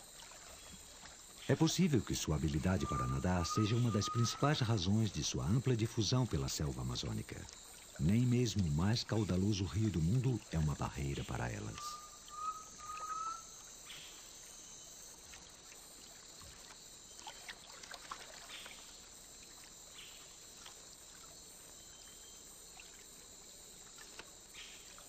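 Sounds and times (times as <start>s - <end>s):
high-pitched insect chorus: 0.0s - 25.0s
water splashes and trickles: 0.0s - 25.0s.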